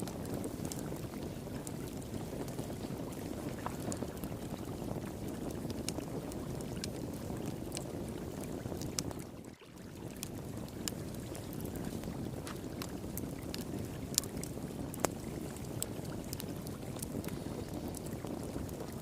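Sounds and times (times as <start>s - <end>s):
fire crackling and popping: 0.0s - 19.0s
flowing water: 0.0s - 19.0s.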